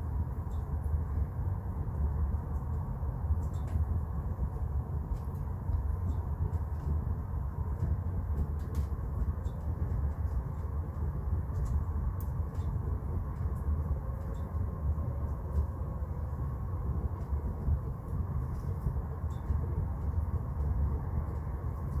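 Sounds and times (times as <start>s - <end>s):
faint fire crackles: 0.0s - 22.0s
wood stove draft rumble: 0.0s - 22.0s.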